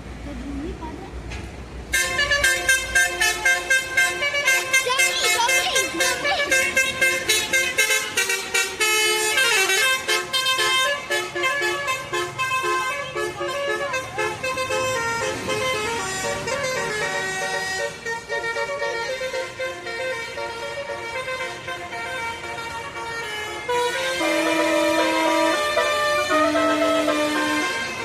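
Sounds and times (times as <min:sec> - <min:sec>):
musical air horns playing tune: 0:01.9 - 0:28.0.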